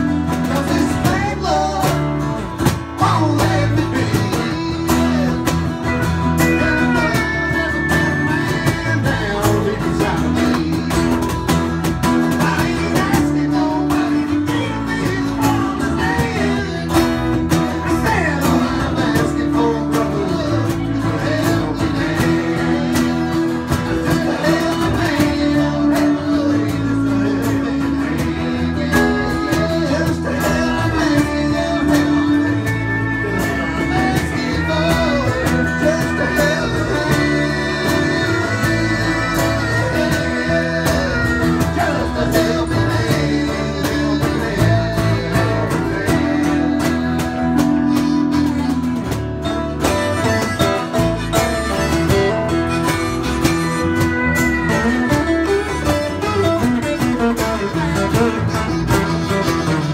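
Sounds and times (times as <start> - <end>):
acoustic guitar strumming: 0.0 - 59.9
country band playing: 0.0 - 59.9
electric bass: 0.0 - 59.9
wavering harmonica lead: 0.0 - 59.9.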